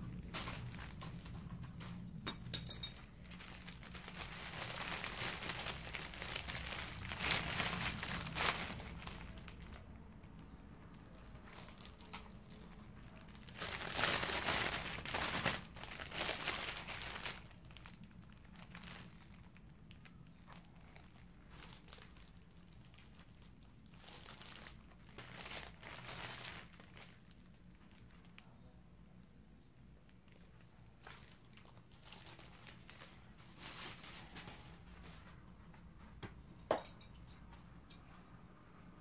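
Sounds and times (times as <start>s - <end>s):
plastic bag crinkling: 0.1s - 28.5s, 30.1s - 35.4s.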